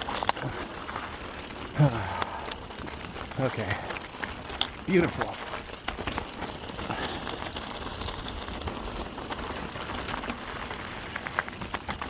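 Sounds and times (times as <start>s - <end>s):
bike clicks and rattles: 0.0s - 12.0s
bike tyres crunching over gravel: 0.0s - 12.0s.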